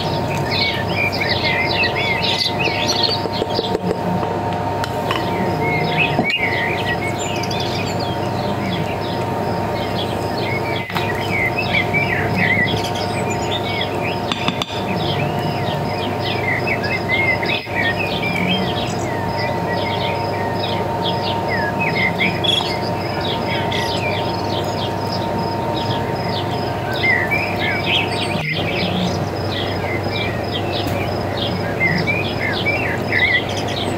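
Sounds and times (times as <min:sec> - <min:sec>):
small birds chirping and twittering: 0:00.0 - 0:33.9
steady hum: 0:00.0 - 0:33.9.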